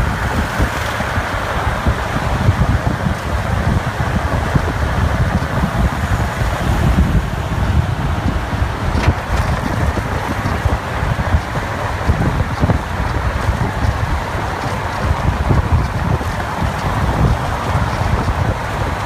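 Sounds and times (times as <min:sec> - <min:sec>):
truck rumbling at speed: 0:00.0 - 0:19.0
wind buffeting microphone: 0:00.0 - 0:19.0.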